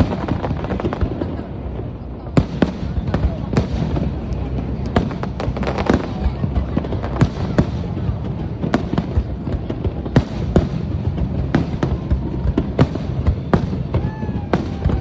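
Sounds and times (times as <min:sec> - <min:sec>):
fireworks bangs: 0:00.0 - 0:15.0
low rumble of explosions: 0:00.0 - 0:15.0.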